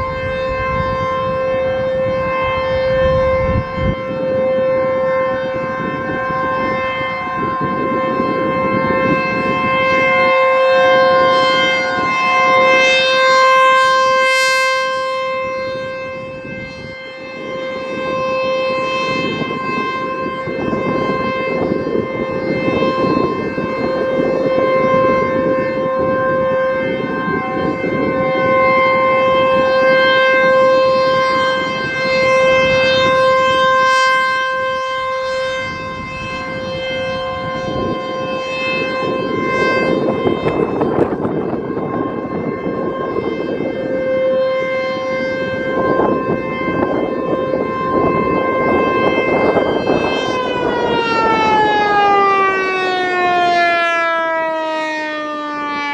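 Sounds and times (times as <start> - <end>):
outdoor warning siren steady tone: 0.0 - 55.9.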